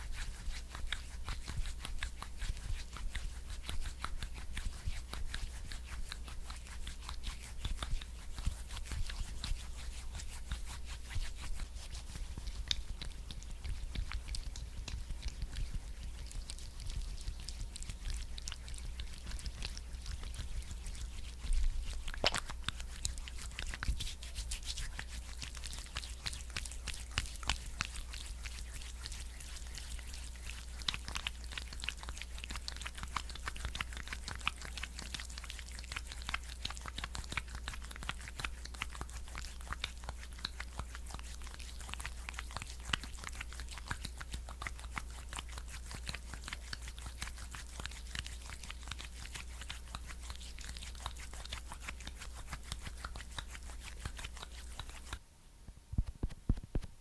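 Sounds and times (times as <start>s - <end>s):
wet crackling of skincare product: 0.0s - 55.2s.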